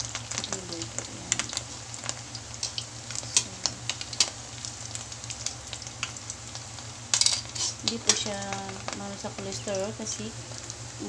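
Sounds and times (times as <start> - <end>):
fritter sizzling in oil: 0.0 - 11.0.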